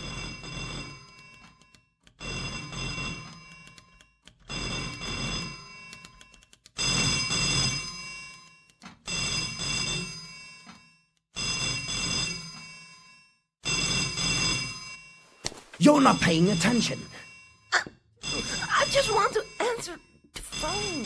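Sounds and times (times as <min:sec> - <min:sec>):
old telephone bell ringing: 0:00.0 - 0:21.0.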